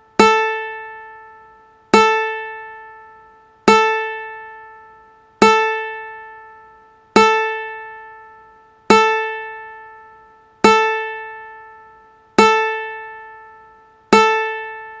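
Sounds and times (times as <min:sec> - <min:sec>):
ukulele string plucked: 0:00.0 - 0:15.0.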